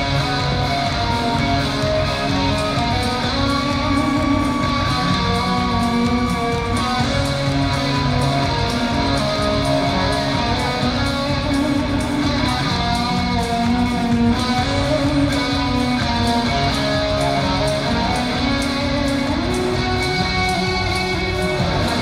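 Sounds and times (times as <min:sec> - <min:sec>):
bass guitar: 0:00.0 - 0:22.0
drum beat: 0:00.0 - 0:22.0
electric guitars strumming: 0:00.0 - 0:22.0.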